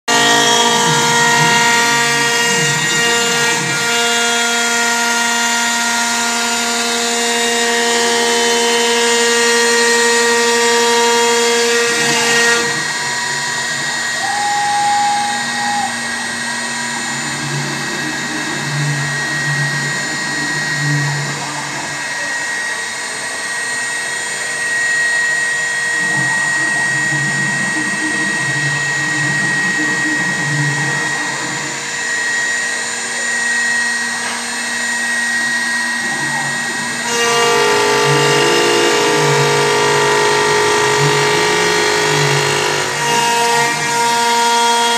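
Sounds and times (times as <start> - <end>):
router spindle whining: 0.0 - 44.9.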